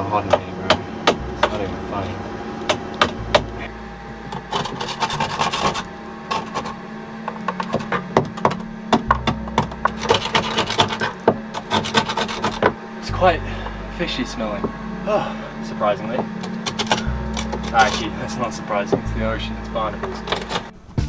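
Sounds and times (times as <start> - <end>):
hand tool scraping barnacles: 0.0 - 13.8, 15.8 - 20.8
faint steady hum: 0.0 - 21.0.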